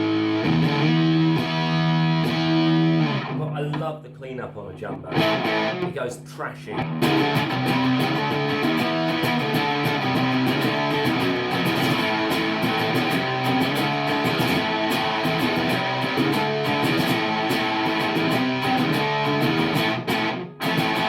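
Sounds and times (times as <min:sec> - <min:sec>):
fuzz electric guitar: 0:00.0 - 0:03.5, 0:05.0 - 0:21.0.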